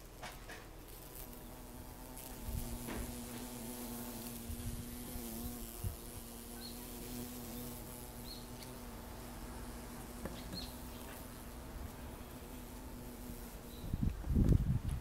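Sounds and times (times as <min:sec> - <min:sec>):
bee buzzing in flight: 0:00.8 - 0:14.5.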